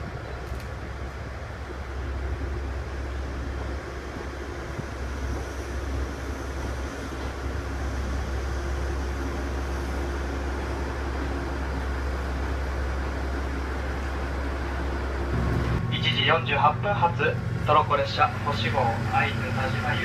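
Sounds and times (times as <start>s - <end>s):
diesel engine humming: 0.0s - 20.0s
faint drone: 0.0s - 20.0s.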